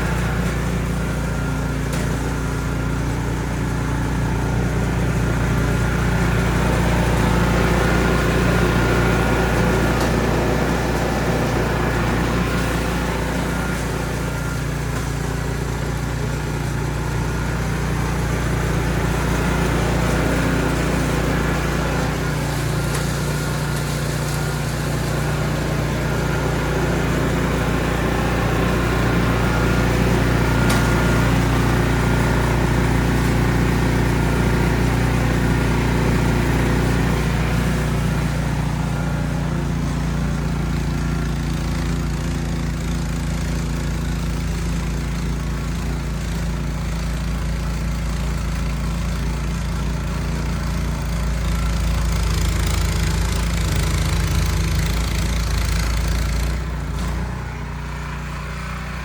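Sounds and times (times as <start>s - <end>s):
snow blower engine running: 0.0s - 59.0s.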